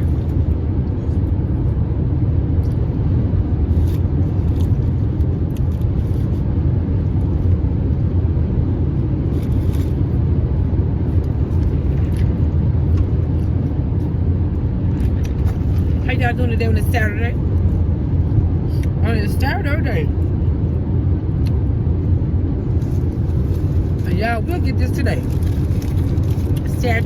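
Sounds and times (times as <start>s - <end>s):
car interior road rumble: 0.0s - 27.0s.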